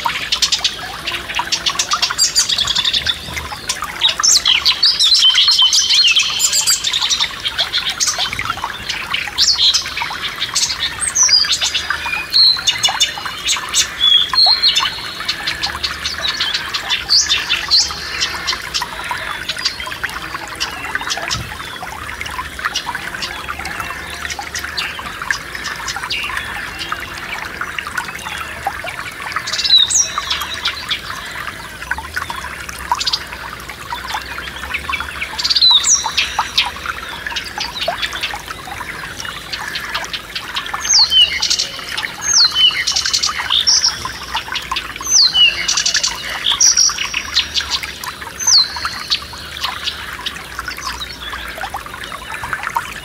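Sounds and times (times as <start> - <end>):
songbirds chirping: 0.0 - 53.0
stream trickling: 0.0 - 53.0.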